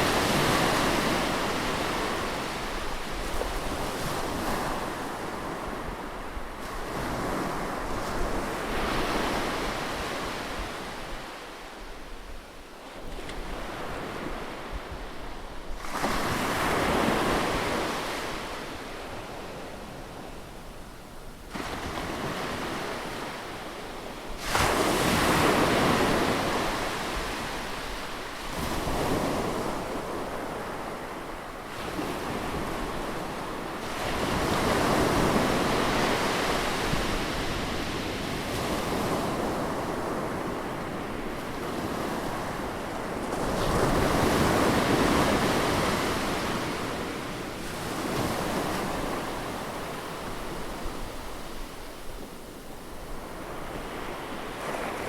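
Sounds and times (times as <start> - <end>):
ocean waves breaking on beach: 0.0 - 11.8, 21.5 - 55.0.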